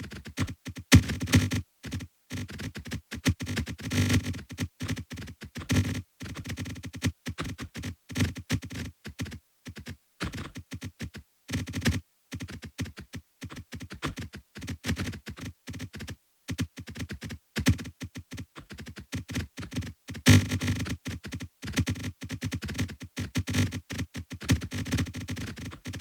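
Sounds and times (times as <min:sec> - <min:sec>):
rapid clicks and taps: 0:00.0 - 0:26.0.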